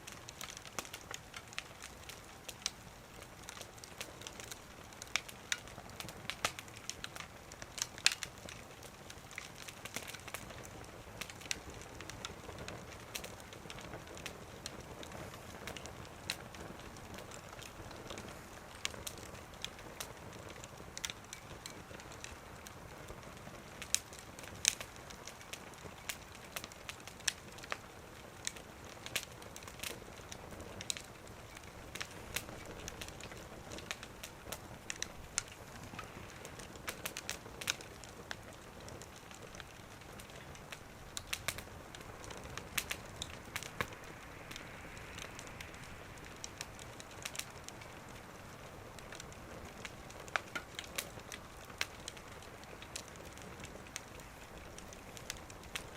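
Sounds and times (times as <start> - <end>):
faint steady hiss: 0.0 - 55.9
wood fire crackling: 0.0 - 55.9.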